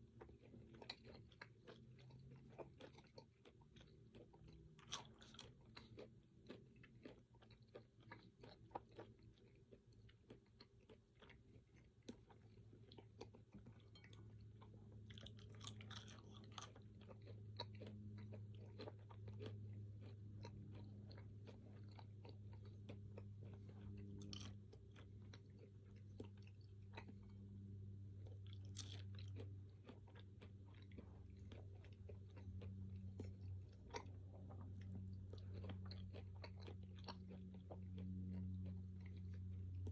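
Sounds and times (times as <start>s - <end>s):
low steady hum: 0.0s - 39.9s
person chewing food: 0.0s - 39.9s.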